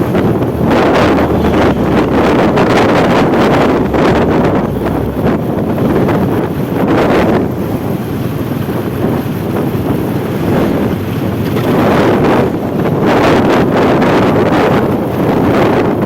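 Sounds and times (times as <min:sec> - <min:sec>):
passing vehicles rumble: 0:00.0 - 0:16.0
wind buffeting microphone: 0:00.0 - 0:16.0.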